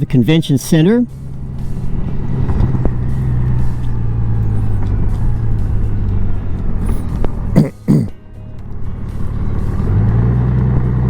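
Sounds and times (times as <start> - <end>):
motorcycle engine running: 1.0 - 11.0.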